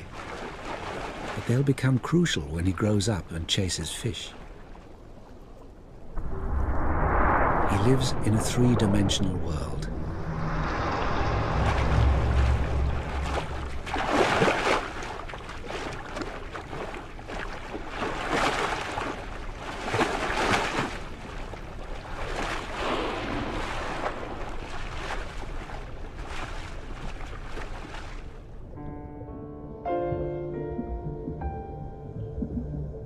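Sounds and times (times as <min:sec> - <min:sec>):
water rushing and splashing: 0:00.0 - 0:28.7.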